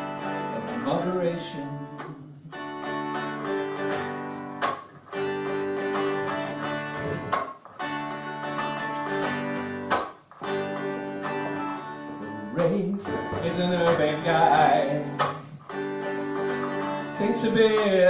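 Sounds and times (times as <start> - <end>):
acoustic guitar strummed: 0.0 - 18.0.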